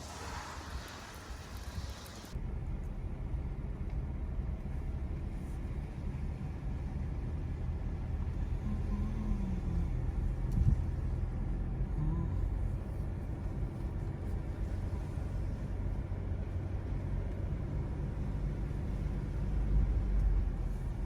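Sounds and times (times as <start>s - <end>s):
vehicle rumble in motion: 0.0s - 21.0s.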